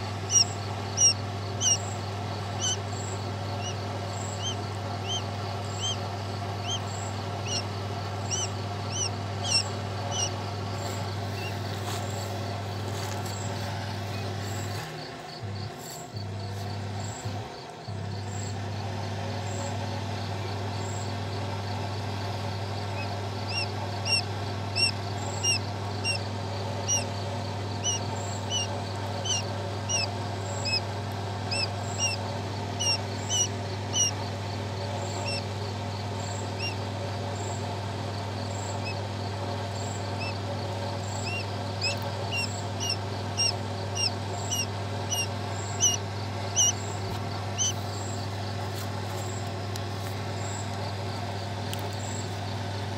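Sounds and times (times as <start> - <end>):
quail chick peeping: 0.0 - 14.9, 21.7 - 52.4
low hum: 0.0 - 19.3, 21.4 - 51.3.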